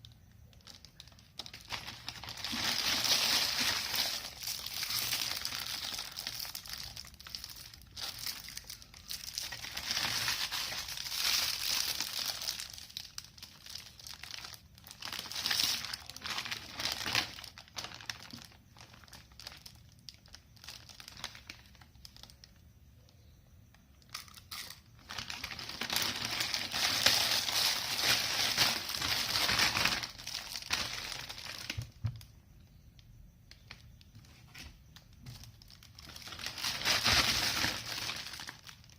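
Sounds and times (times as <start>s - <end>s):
plastic packaging crinkling and tearing: 0.0s - 22.6s, 24.0s - 32.3s, 33.5s - 38.9s.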